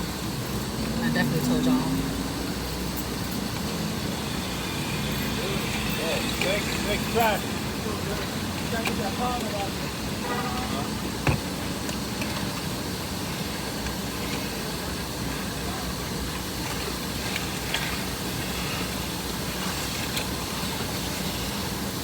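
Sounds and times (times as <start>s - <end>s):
car engine humming: 0.0s - 22.0s
road noise: 0.0s - 22.0s.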